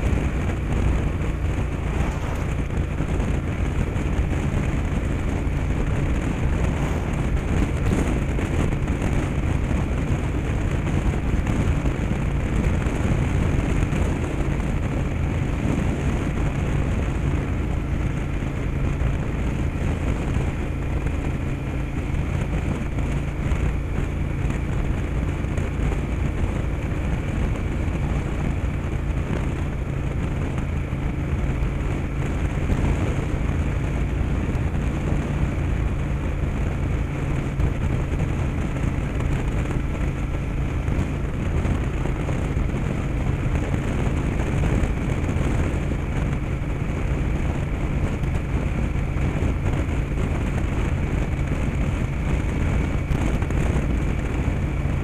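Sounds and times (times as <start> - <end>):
motorcycle engine running: 0.0 - 55.0
road noise: 0.0 - 55.0
wind noise: 0.0 - 55.0.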